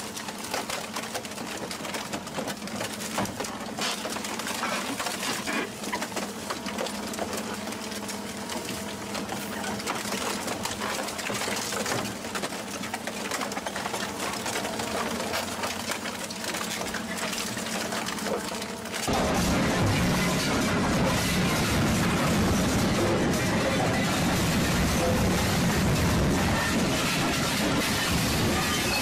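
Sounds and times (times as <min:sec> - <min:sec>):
shredder machine hum: 0:00.0 - 0:29.0.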